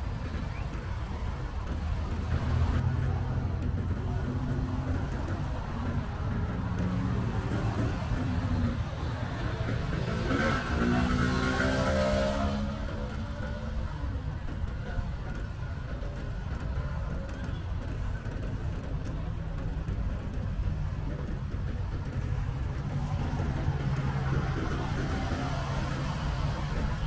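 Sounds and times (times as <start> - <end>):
traffic rumble: 0.0 - 27.0
vehicle engine hum: 0.0 - 27.0.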